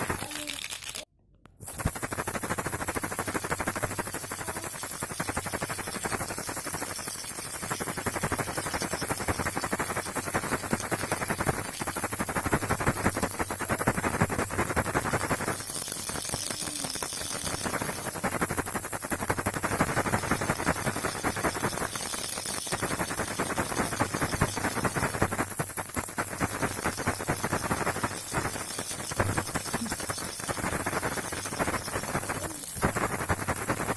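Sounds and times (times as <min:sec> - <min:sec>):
baby rattle shaken: 0:00.0 - 0:33.9.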